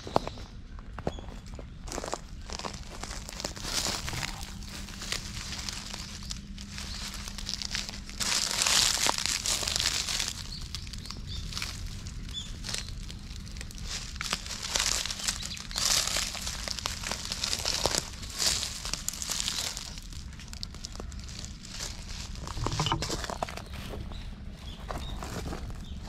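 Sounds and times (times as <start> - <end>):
dry leaves crunching underfoot: 1.9 - 24.0.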